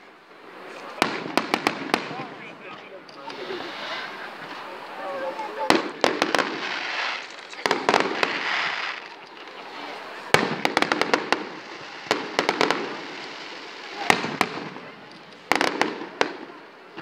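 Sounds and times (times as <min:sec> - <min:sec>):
fireworks bursting bangs: 0:00.0 - 0:17.0
fireworks crackling hiss: 0:00.0 - 0:17.0.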